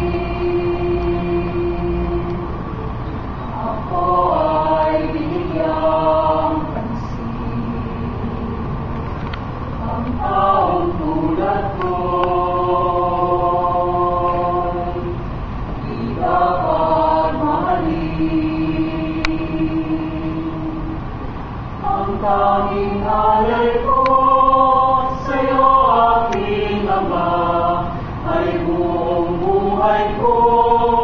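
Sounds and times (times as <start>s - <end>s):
mixed choir singing: 0.0s - 31.0s.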